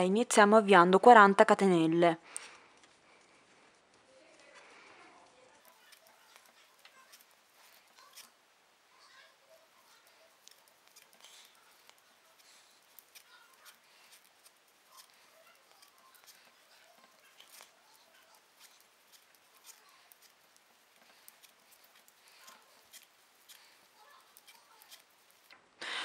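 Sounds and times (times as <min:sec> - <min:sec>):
crochet hook clicking and rustling: 0:02.3 - 0:25.6.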